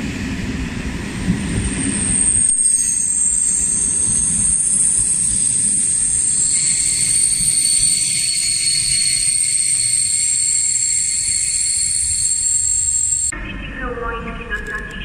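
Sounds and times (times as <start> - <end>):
train wheels rumbling: 0.0 - 13.3
high-pitched whine: 0.0 - 13.7
lower whine: 0.0 - 13.7.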